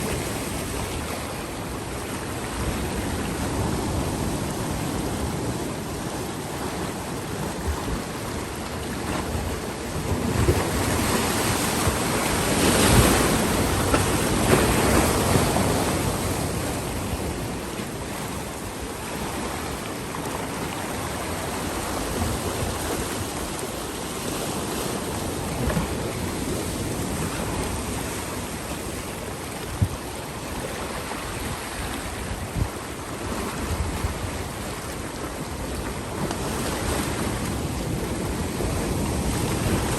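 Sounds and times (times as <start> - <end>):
sea waves on rocky shore: 0.0 - 39.9.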